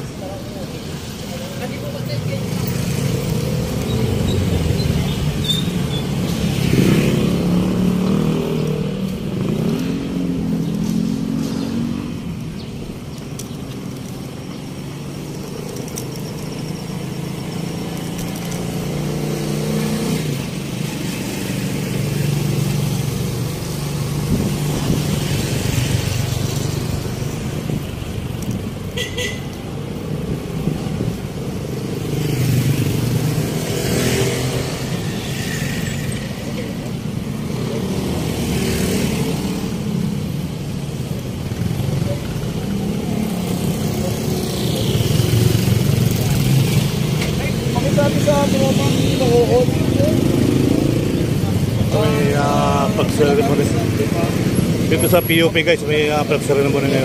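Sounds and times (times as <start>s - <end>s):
car and motorcycle engines revving: 0.1s - 57.0s.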